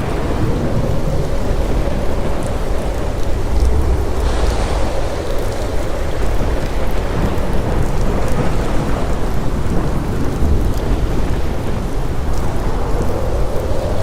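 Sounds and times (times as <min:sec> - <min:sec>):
steady rain: 0:00.0 - 0:14.0
thunder rumble: 0:00.0 - 0:14.0.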